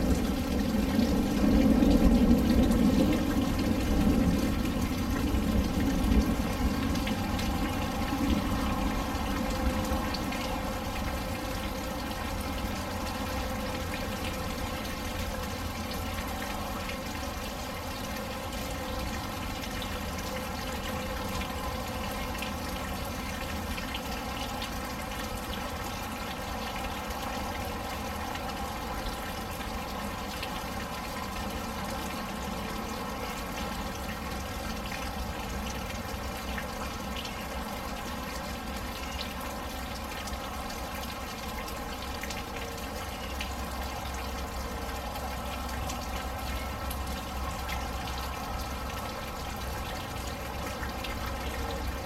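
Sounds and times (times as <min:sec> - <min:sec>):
rain pouring: 0:00.0 - 0:52.0
water splashing and trickling: 0:00.0 - 0:52.0.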